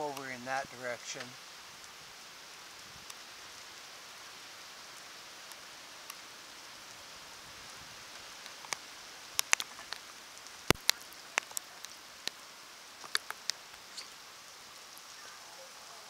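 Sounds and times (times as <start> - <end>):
heavy rain falling: 0.0 - 16.0
raindrops ticking close by: 0.0 - 16.0.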